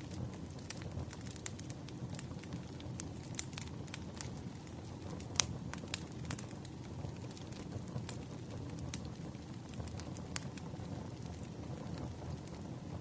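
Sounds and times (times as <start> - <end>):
campfire crackling: 0.0 - 13.0
fire popping and snapping: 0.0 - 13.0.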